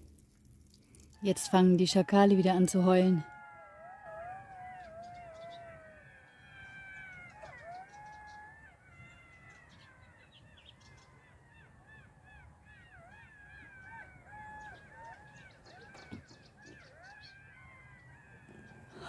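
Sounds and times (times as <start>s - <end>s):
jackals howling: 1.2s - 19.0s.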